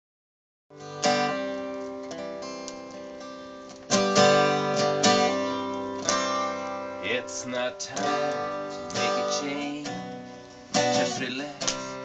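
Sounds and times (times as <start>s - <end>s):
acoustic guitar strummed chords: 0.7s - 12.0s.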